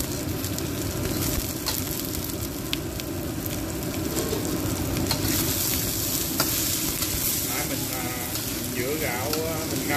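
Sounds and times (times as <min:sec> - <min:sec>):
rice sizzling in hot oil: 0:00.0 - 0:09.9.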